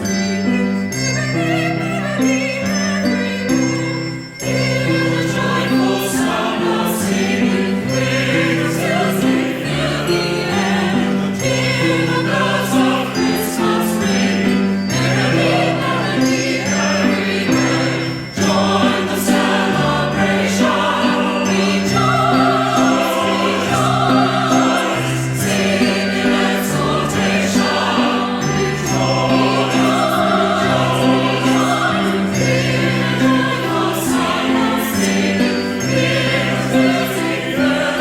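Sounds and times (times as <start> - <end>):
bells ringing: 0.0 - 38.0
instrumental accompaniment: 0.0 - 38.0
choir singing: 1.2 - 38.0.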